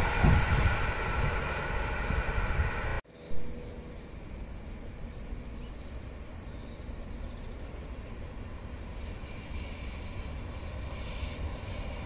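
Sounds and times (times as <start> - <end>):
distant train rumble: 0.0 - 12.0
steady hiss: 0.0 - 12.0.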